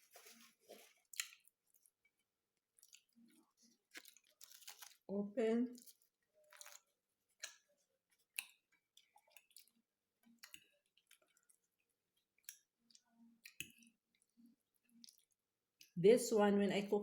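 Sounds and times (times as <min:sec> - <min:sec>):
person chewing food: 0:00.0 - 0:05.1, 0:05.7 - 0:16.0.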